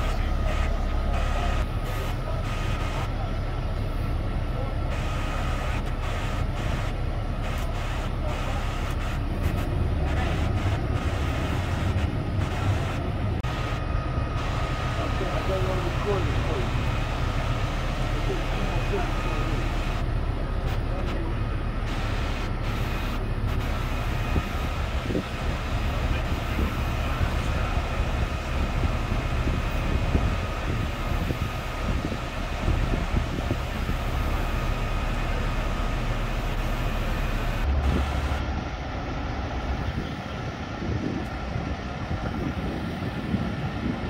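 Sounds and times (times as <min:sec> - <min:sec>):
diesel trucks idling: 0:00.0 - 0:44.0
faint steady whine: 0:00.0 - 0:44.0.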